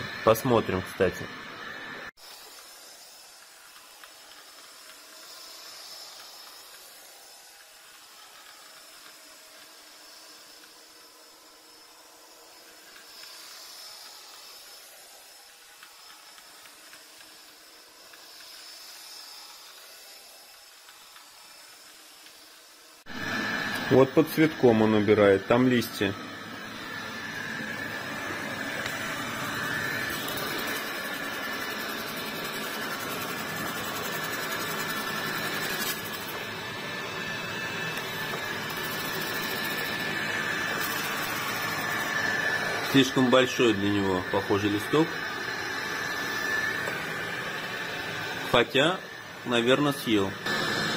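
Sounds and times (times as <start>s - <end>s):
faint high whine: 0.0s - 50.9s
robot vacuum suction hiss: 2.2s - 50.9s.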